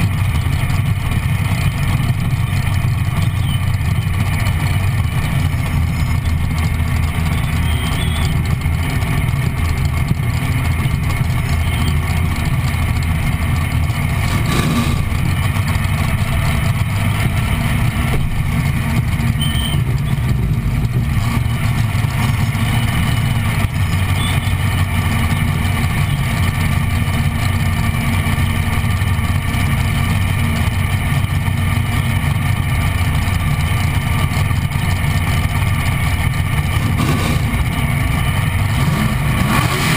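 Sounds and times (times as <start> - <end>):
dragster engine idling: 0.0 - 39.9.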